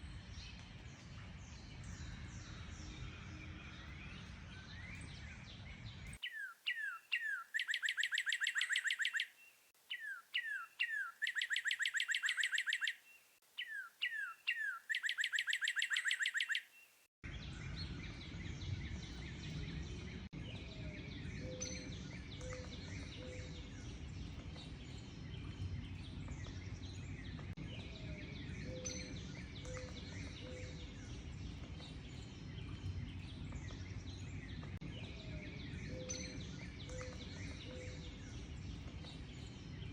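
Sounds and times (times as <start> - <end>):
songbird singing trill: 0.0 - 39.9
distant bird chirps: 6.1 - 39.9.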